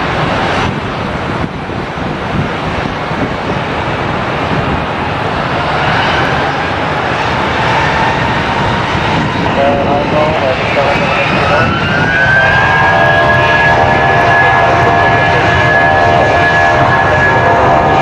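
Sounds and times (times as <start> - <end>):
faint engine whine: 0.0 - 18.0
jet engines at takeoff power: 0.0 - 18.0.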